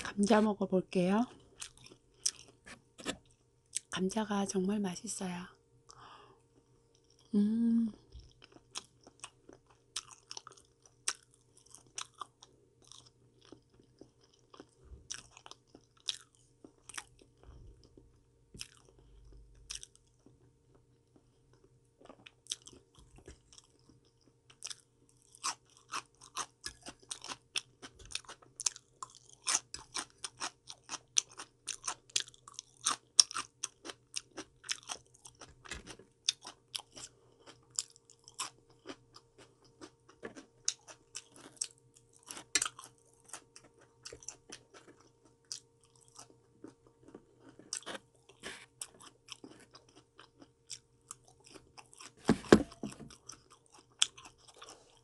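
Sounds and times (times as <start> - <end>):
faint steady hum: 0.0 - 55.0
person chewing crunchy vegetables: 1.1 - 4.0, 6.9 - 55.0.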